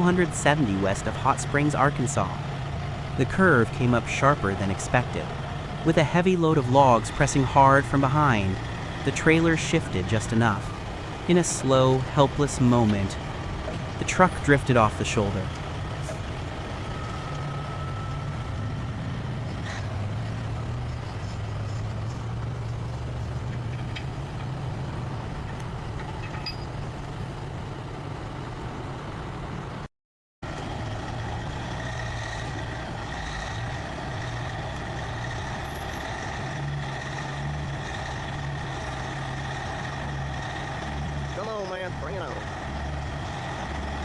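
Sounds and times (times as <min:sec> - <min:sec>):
heavy truck engine running: 0:00.0 - 0:44.0.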